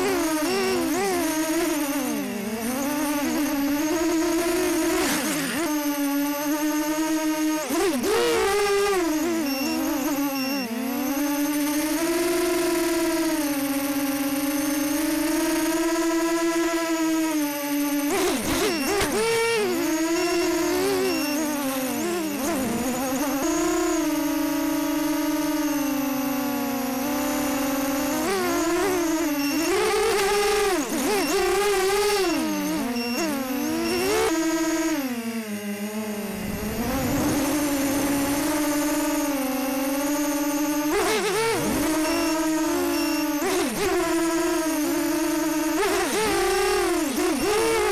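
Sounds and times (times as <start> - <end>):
quadcopter motors whining: 0.0 - 47.9.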